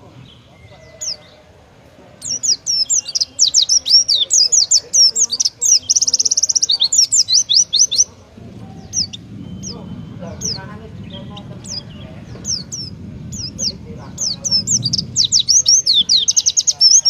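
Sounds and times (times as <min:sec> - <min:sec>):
bird singing high chirps: 0:02.2 - 0:17.0.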